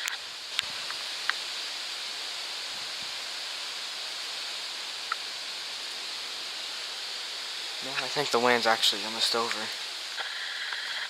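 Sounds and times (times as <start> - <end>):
wind through trees and leaves: 0.0 - 11.0.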